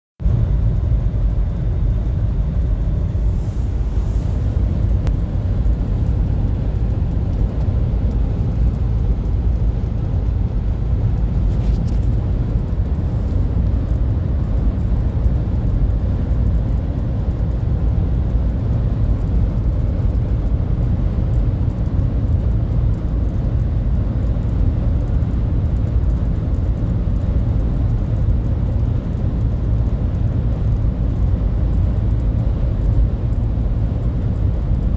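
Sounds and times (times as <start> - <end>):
car cabin road rumble: 0.2 - 34.9.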